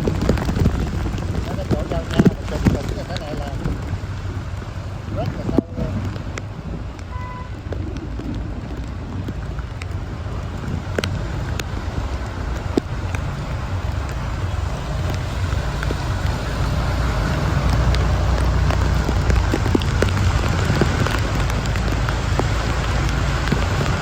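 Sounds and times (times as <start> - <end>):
heavy rain falling: 0.0 - 24.0
raindrops ticking on surfaces: 0.0 - 24.0.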